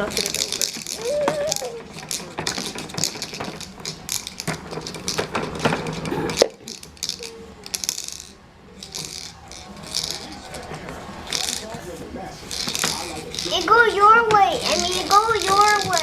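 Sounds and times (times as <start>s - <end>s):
small objects clattering on a table: 0.0s - 11.9s, 12.5s - 16.0s.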